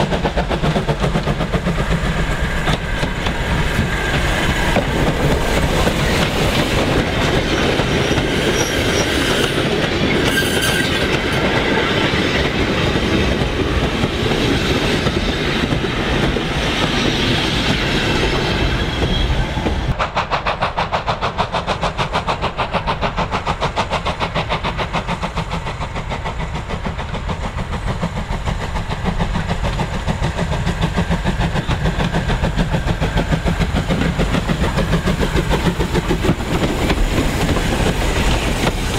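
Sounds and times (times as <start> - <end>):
steam locomotive exhaust beating: 0.0 - 38.9.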